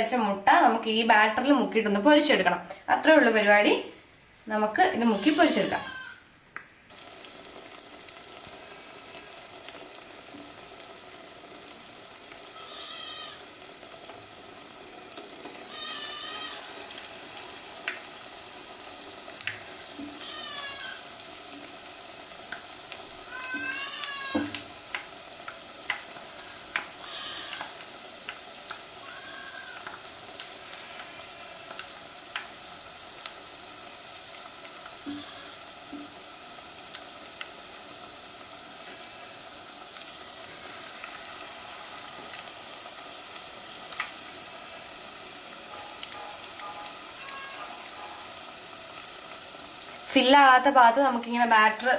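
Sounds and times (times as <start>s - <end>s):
food deep-frying in oil: 0.0s - 51.9s.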